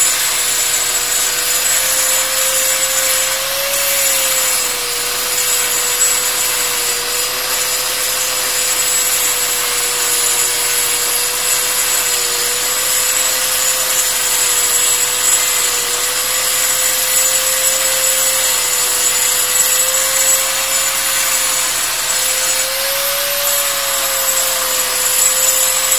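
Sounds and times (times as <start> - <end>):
angle grinder whine: 0.0 - 25.9
grinding disc hissing on stone: 0.0 - 25.9.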